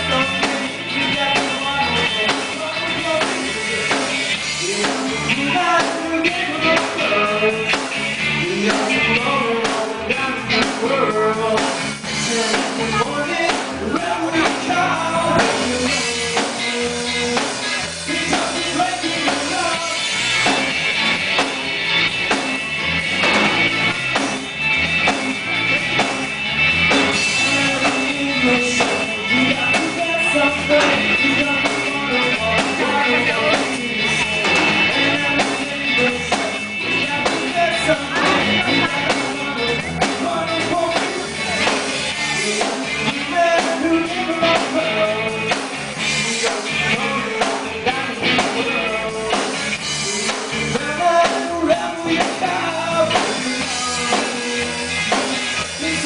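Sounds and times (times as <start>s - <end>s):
person singing: 0.0s - 21.6s, 26.9s - 56.0s
guitar: 0.0s - 56.0s
rock band playing: 0.0s - 56.0s
steady drum beat: 0.0s - 56.0s.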